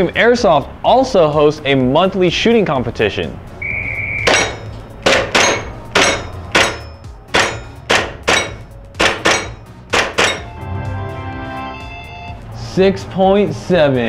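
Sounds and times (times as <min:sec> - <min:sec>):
music: 0:00.0 - 0:14.0.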